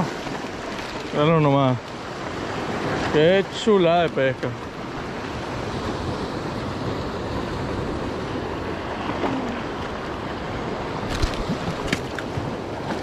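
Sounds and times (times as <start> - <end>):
surf on rocky shore: 0.0 - 13.0.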